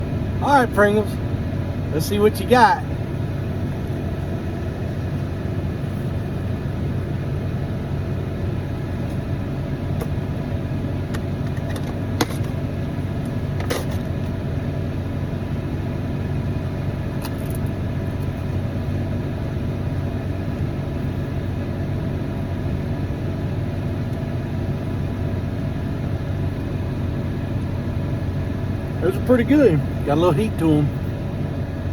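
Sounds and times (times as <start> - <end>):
vehicle engine rumble: 0.0 - 31.9.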